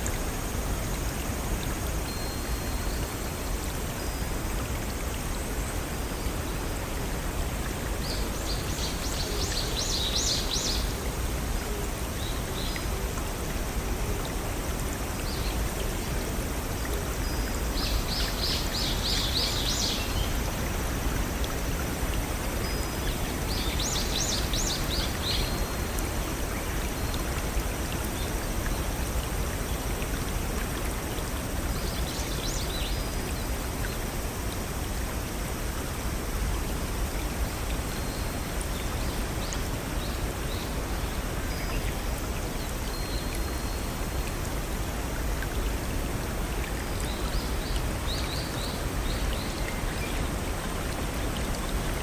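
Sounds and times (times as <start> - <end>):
stream and waterfall rushing: 0.0 - 52.0.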